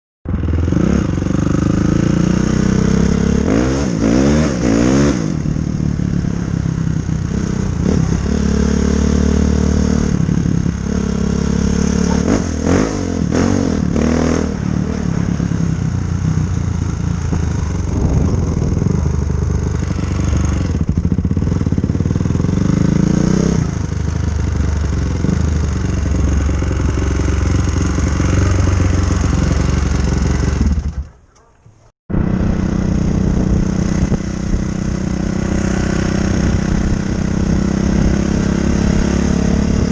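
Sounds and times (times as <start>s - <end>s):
motorcycle engine revving: 0.3s - 31.2s, 32.1s - 39.9s.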